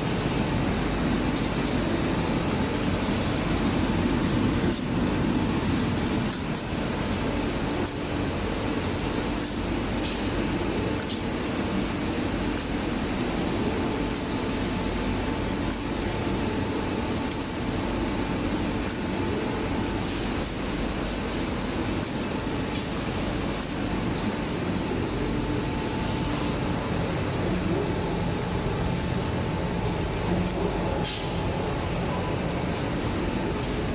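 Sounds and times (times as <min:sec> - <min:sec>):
machine mechanical hum: 0:00.0 - 0:33.9.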